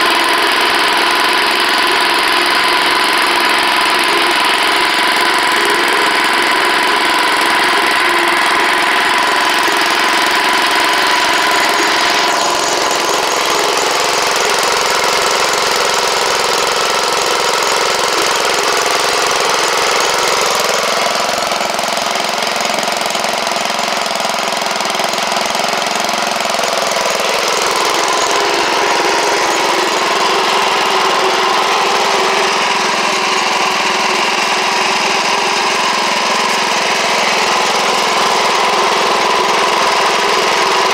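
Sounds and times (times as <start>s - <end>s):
small tractor engine running: 0.0s - 40.9s.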